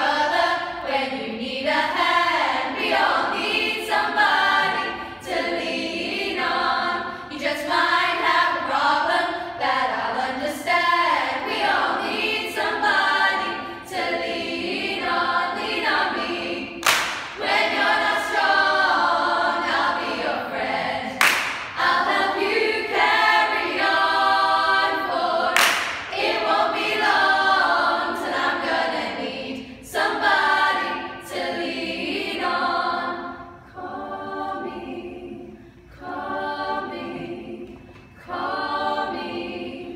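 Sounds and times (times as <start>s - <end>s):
women singing a cappella: 0.0s - 39.9s.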